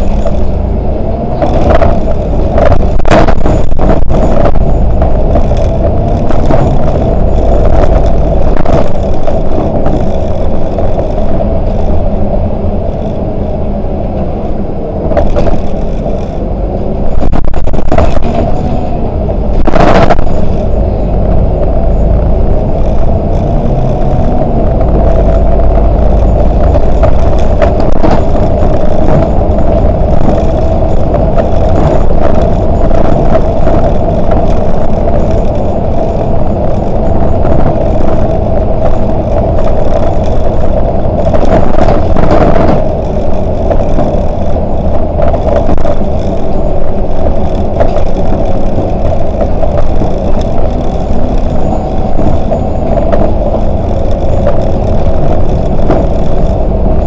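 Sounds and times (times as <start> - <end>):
loose rattles and clatter: 0.0 - 0.6, 1.3 - 13.3, 15.0 - 18.8, 19.5 - 57.0
bus engine and road noise: 0.0 - 57.0
constant whine: 0.0 - 57.0.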